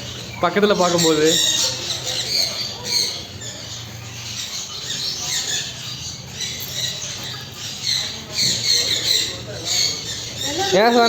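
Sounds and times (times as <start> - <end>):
parrots chattering and squawking: 0.0 - 11.0.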